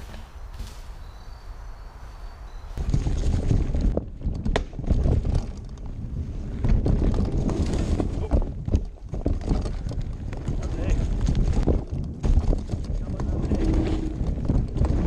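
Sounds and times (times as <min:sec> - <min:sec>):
mountain bike rumbling on dirt trail: 0:02.8 - 0:15.0
sharp knocks and rattles: 0:02.8 - 0:15.0.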